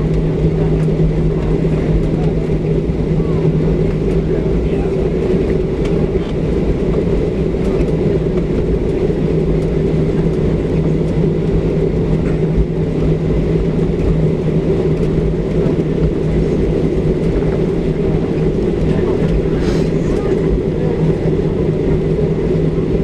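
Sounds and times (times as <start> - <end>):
airplane cabin rumble: 0.0 - 23.0
low engine and air system hum: 0.0 - 23.0.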